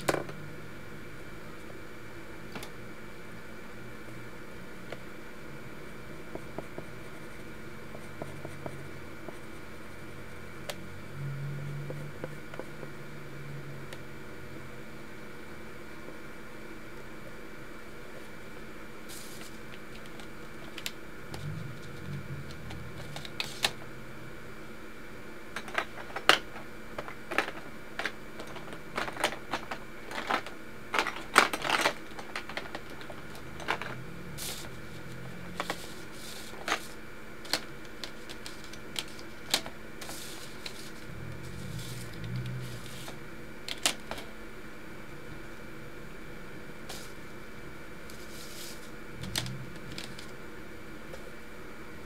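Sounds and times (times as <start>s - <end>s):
steady faint hum: 0.0s - 52.0s.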